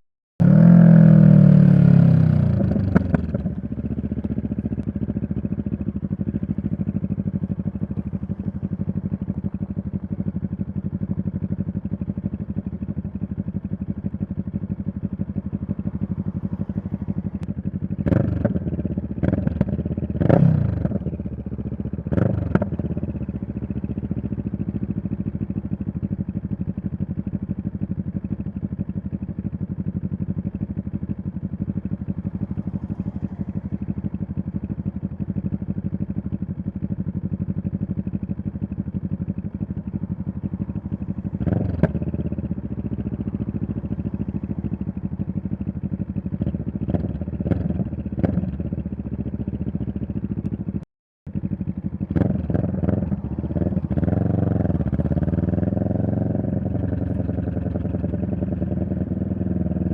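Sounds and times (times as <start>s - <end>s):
motorcycle engine idling: 0.4s - 59.9s.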